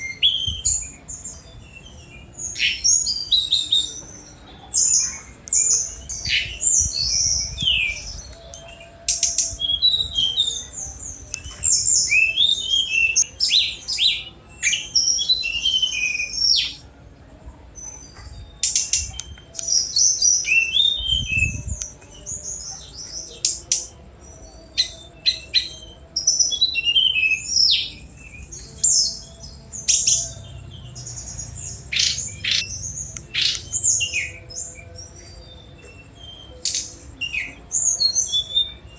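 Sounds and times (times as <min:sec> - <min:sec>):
flycatcher singing: 0:00.0 - 0:17.0, 0:17.7 - 0:38.9.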